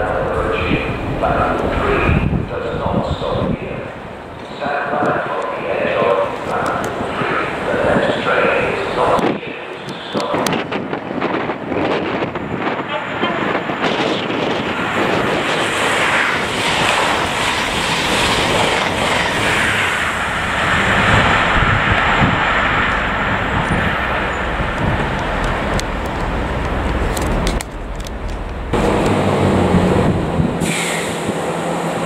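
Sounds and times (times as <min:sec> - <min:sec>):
train passing at speed: 0:00.0 - 0:32.0
wind on microphone: 0:00.0 - 0:32.0.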